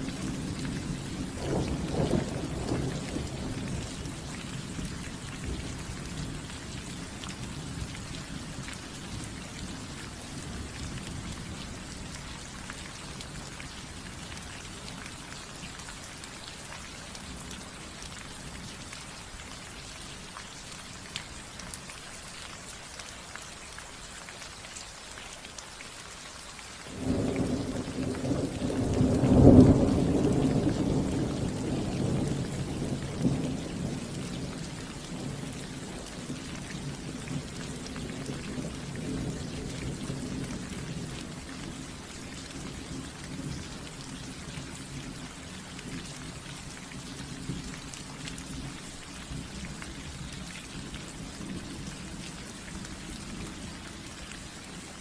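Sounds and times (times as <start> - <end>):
rain falling on a roof: 0.0 - 55.0.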